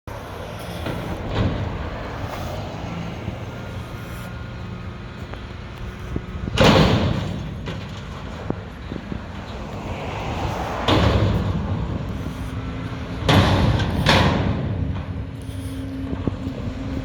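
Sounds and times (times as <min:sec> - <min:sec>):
garbage truck diesel engine running: 0:00.1 - 0:17.0.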